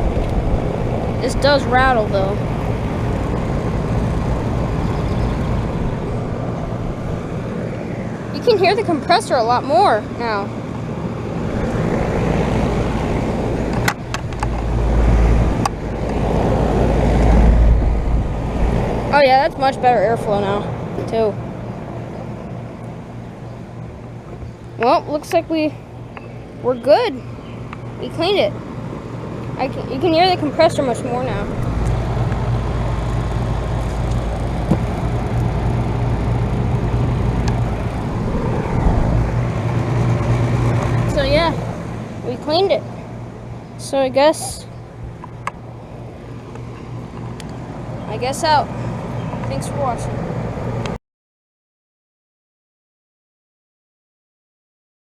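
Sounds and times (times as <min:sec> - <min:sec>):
air conditioner compressor hum: 0:00.0 - 0:50.9
condenser fan air rushing: 0:00.0 - 0:51.0.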